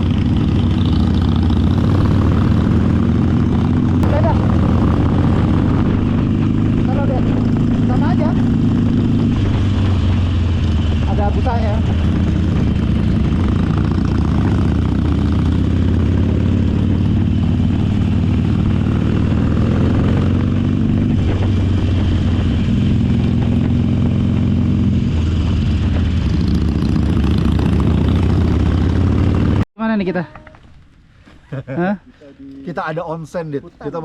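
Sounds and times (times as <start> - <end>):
motorcycle engine running: 0.0 - 29.7.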